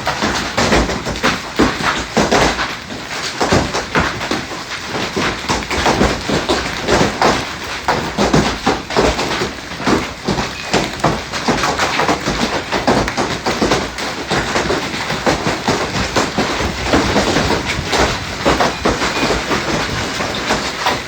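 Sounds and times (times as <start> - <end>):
heavy hail clattering: 0.0 - 21.0.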